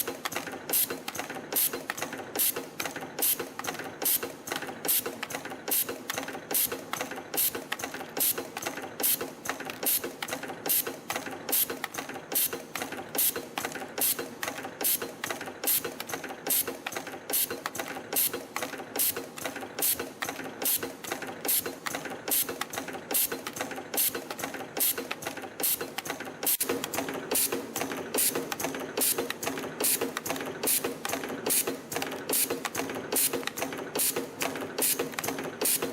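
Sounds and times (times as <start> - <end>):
spring-coiling machine clicking: 0.0 - 35.9.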